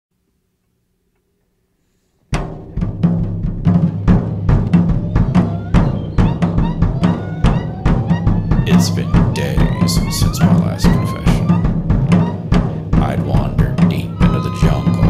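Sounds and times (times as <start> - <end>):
bass guitar: 2.4 - 15.0
drum kit playing fast beat: 2.4 - 15.0.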